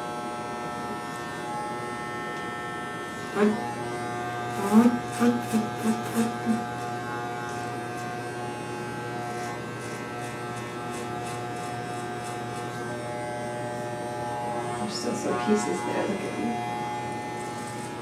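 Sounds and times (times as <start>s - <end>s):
electric hair clipper buzzing: 0.0s - 18.0s.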